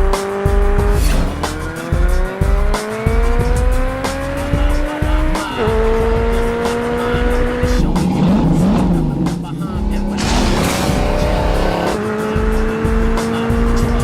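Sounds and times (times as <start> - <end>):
car engine accelerating: 0.0 - 14.0
music with thumping bass beat: 0.0 - 14.0.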